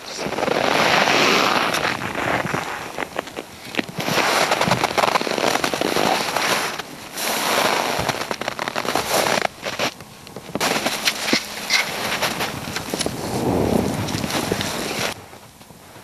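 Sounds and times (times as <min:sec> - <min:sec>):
clothing rustling: 0:00.0 - 0:15.6
footsteps crunching in snow: 0:00.0 - 0:16.0.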